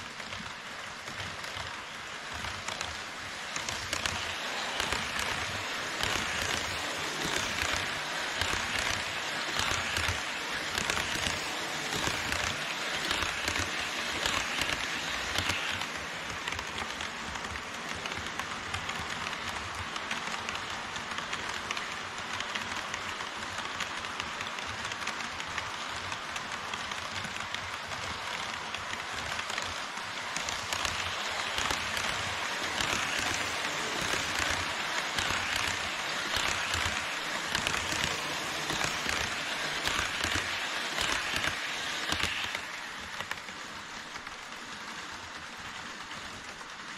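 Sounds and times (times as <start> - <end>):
model train wheels clattering on track: 0.0 - 46.9.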